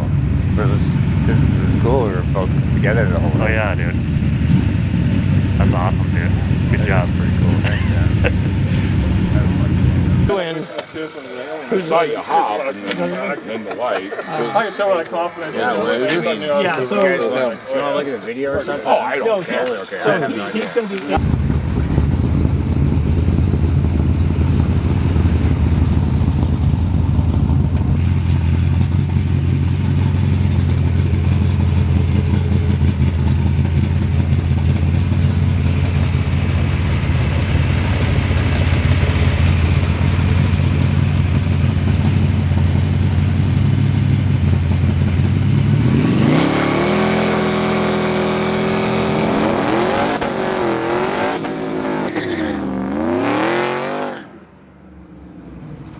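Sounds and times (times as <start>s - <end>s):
car engine revving and accelerating: 0.0s - 10.4s, 21.2s - 55.9s
car engine idling: 0.0s - 15.6s, 17.4s - 52.2s.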